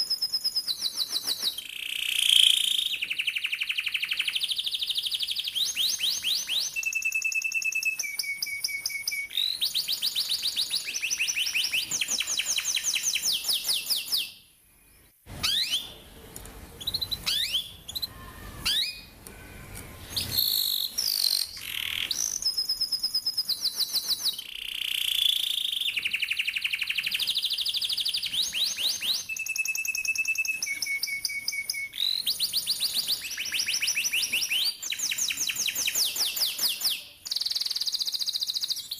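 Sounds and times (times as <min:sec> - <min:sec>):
canary singing trills: 0:00.0 - 0:16.2, 0:16.8 - 0:38.9.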